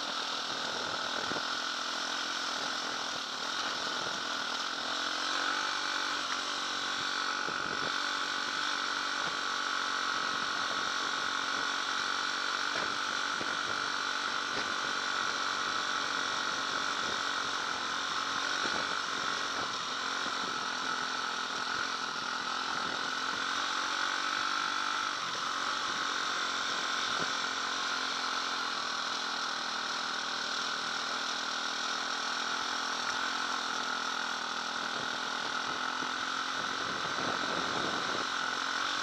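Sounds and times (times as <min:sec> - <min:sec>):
dirt bike engine running: 0:00.0 - 0:39.0.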